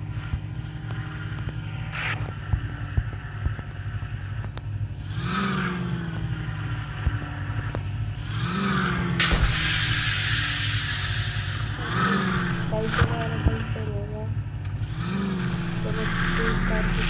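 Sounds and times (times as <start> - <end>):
engine running and revving: 0.0 - 17.0.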